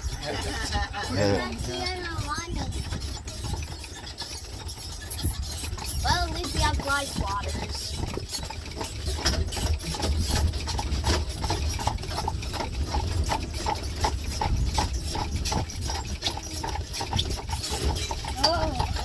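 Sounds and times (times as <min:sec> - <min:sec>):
buggy rolling rumble: 0:00.0 - 0:19.0
horse hooves clip-clopping on road: 0:00.0 - 0:19.0.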